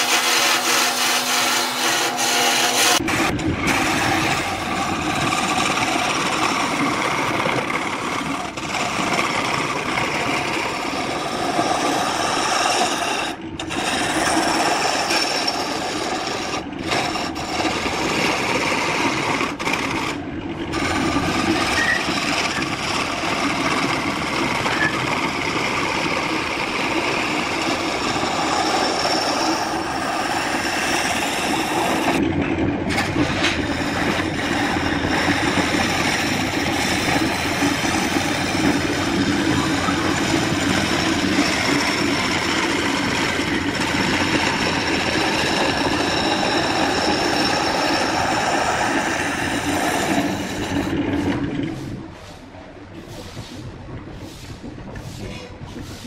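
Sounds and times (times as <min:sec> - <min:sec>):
chisel scraping wood: 0:00.0 - 0:25.0, 0:26.6 - 0:32.2, 0:32.9 - 0:51.9
wood lathe whirring: 0:00.0 - 0:52.0.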